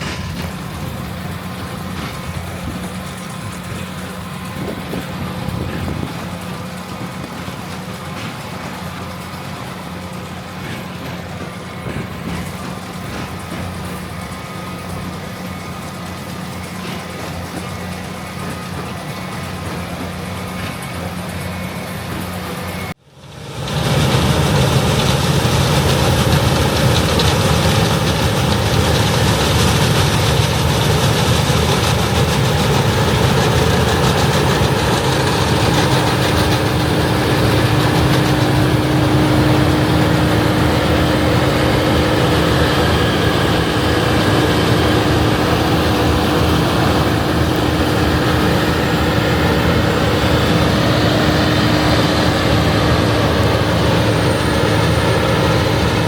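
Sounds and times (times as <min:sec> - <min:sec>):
diesel machinery rumbling: 0:00.0 - 0:56.0.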